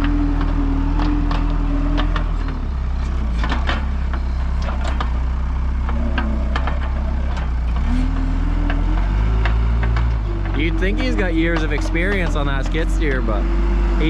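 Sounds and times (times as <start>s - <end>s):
knocks and clanks: 0.0s - 13.5s
heavy machinery engine drone: 0.0s - 14.0s.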